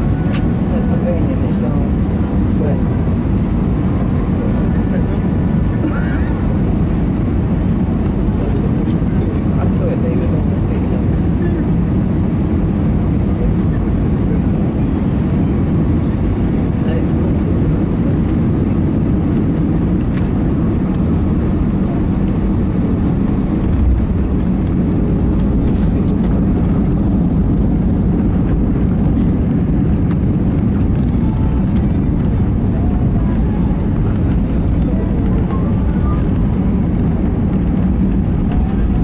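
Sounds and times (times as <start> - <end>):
aircraft landing roll rumble: 0.0 - 39.0.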